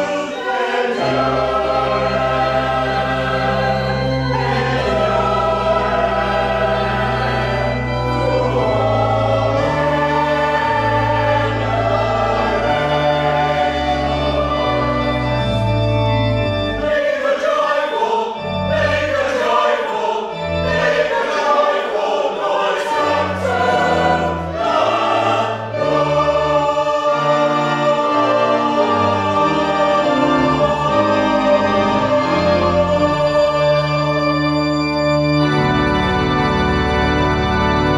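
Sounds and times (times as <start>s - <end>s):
choir singing: 0.0s - 37.9s
pipe organ: 0.0s - 37.9s.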